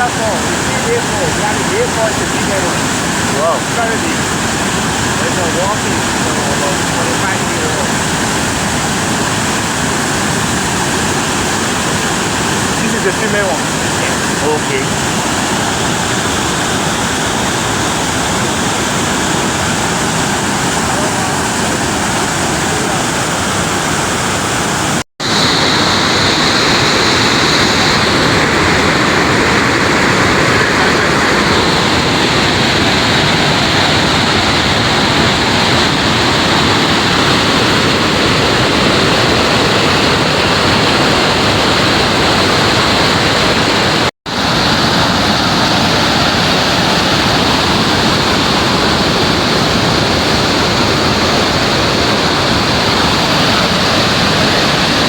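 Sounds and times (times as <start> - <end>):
waterfall roaring over rocks: 0.0 - 55.0.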